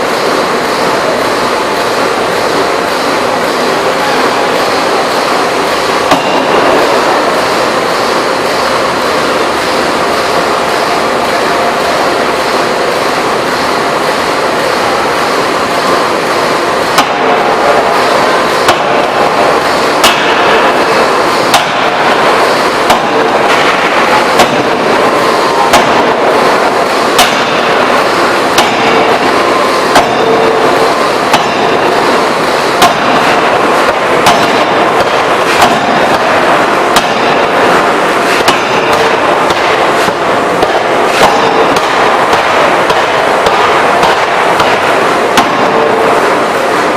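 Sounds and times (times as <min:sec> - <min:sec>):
forging hammer blows: 0:00.0 - 0:46.9
loud mechanical noise: 0:00.0 - 0:46.9.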